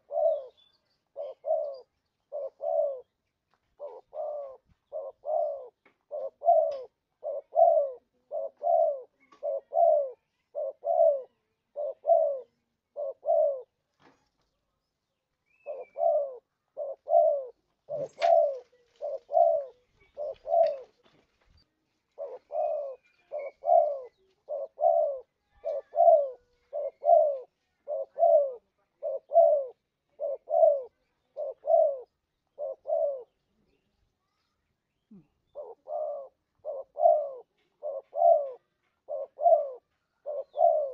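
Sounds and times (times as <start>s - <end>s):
dove cooing: 0.0s - 13.8s, 15.6s - 21.1s, 22.1s - 33.8s, 35.1s - 40.9s.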